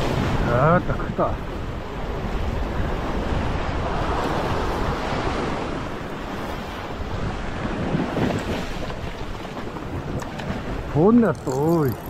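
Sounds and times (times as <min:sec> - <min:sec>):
ocean swell foaming against rocks: 0:00.0 - 0:12.0
wind rumbling on microphone: 0:00.0 - 0:12.0.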